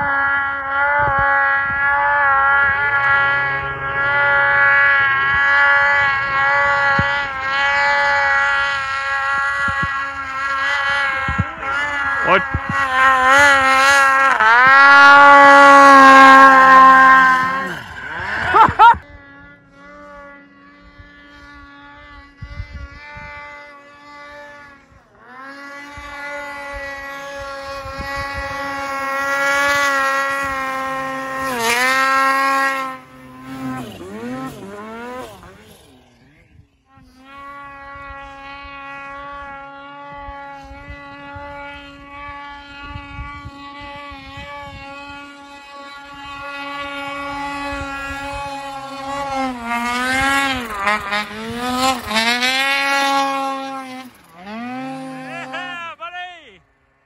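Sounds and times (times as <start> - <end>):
wind buffeting microphone: 0.0 - 55.1
distant snowmobile engine droning: 0.0 - 57.0
snowmobile engine revving: 0.0 - 57.0.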